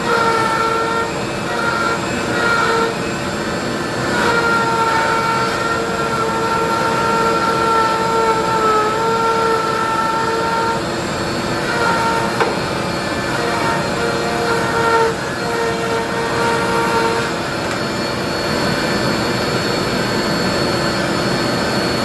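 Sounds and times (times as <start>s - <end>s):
router whining: 0.0s - 22.0s
wood cutting noise: 0.0s - 22.0s.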